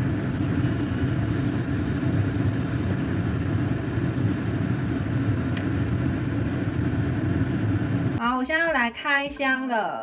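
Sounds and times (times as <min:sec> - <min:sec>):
pressure cooker venting steam: 0:00.0 - 0:08.2.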